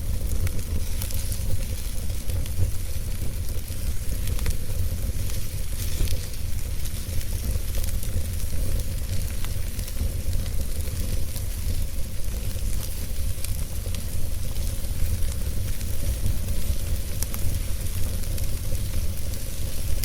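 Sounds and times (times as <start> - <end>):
fire crackling and popping: 0.0 - 20.0
fire rumbling and hissing: 0.0 - 20.0.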